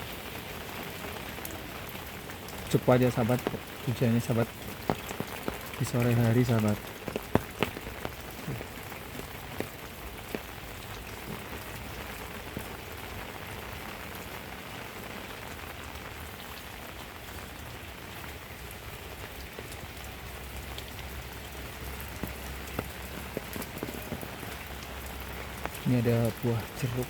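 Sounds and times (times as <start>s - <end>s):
heavy rain falling: 0.0s - 27.0s
raindrops tapping: 0.0s - 27.0s.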